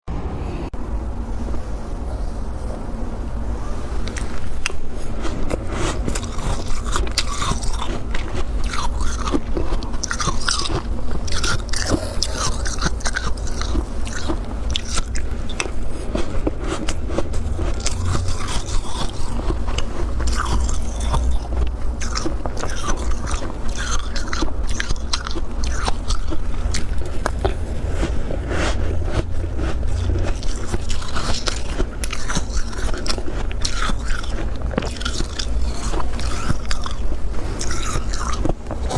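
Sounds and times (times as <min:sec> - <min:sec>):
low rumble: 0:00.1 - 0:23.8, 0:24.4 - 0:38.9
chewing crunchy frost: 0:03.6 - 0:38.9.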